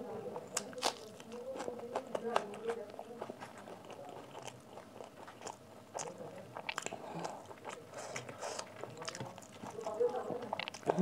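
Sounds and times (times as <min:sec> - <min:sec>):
chewing soft food: 0:00.0 - 0:11.0.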